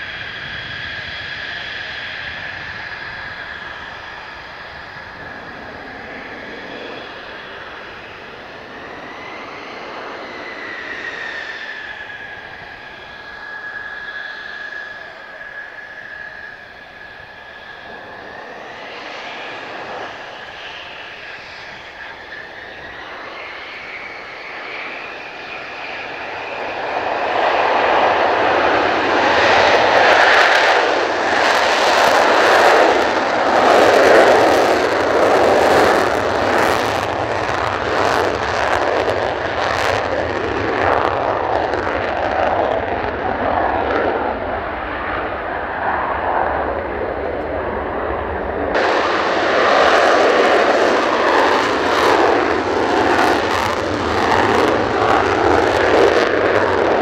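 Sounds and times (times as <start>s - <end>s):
jet engine roaring: 0.0s - 57.0s.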